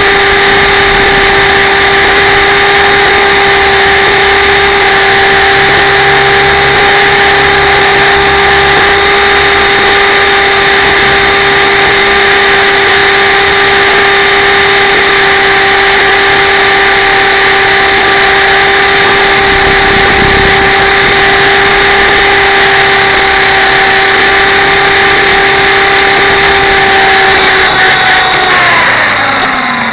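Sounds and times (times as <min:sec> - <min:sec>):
helicopter rotors whining: 0:00.0 - 0:29.9.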